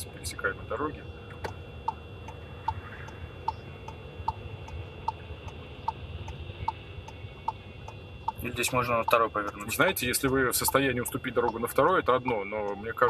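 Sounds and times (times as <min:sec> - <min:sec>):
engine and road rumble: 0:00.0 - 0:13.0
turn signal ticking: 0:01.2 - 0:13.0.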